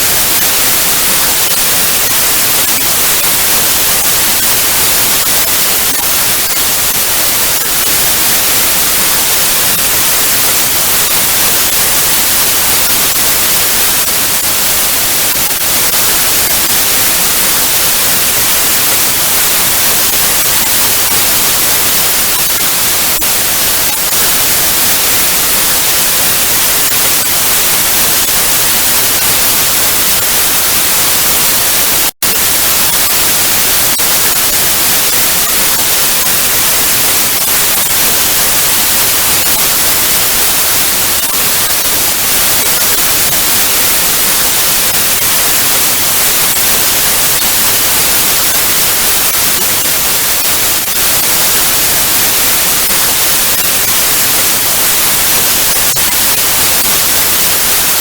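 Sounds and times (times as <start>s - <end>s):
tv static hiss: 0.0s - 58.0s.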